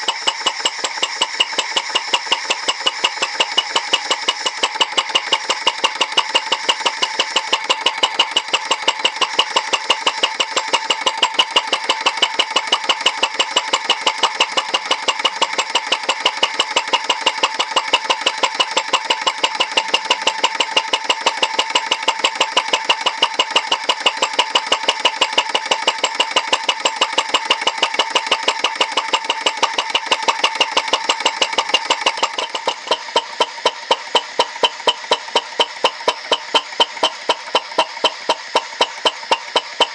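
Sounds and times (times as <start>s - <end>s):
model engine rapid clicking: 0.0s - 39.9s.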